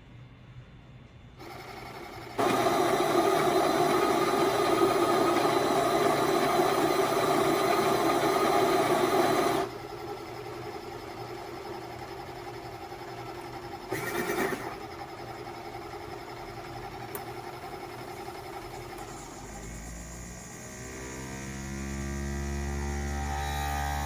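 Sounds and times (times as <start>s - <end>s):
coffee maker hum: 1.4s - 24.0s
coffee maker motor running: 1.4s - 24.0s.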